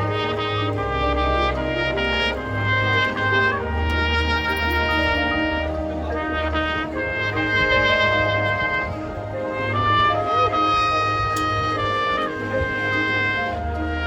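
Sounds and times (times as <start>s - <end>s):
brass band playing chords: 0.0s - 14.0s.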